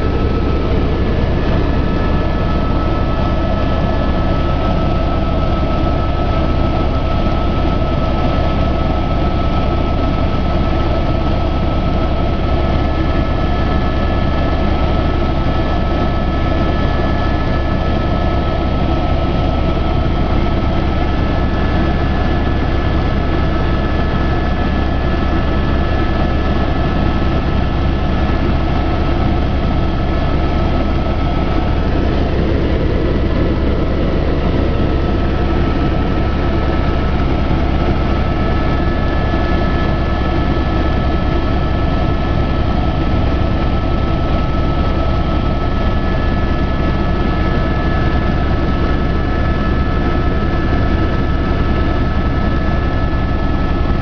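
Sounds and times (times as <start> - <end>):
aircraft engine drone in cabin: 0.0 - 54.0.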